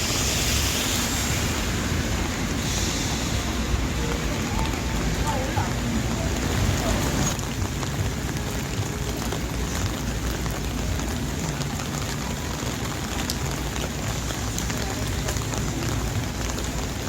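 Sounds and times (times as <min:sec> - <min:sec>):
rain falling on a street: 0:00.0 - 0:17.0.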